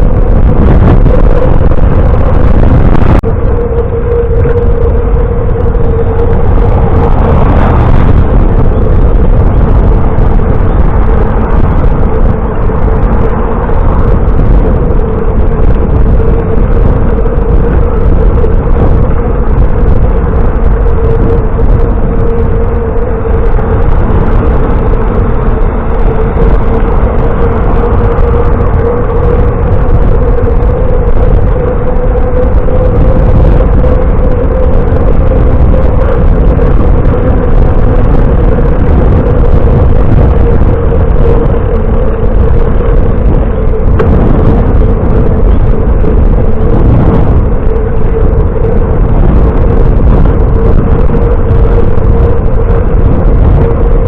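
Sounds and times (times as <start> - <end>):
constant hum: 0.0 - 54.0
wind rush on microphone: 0.0 - 54.0.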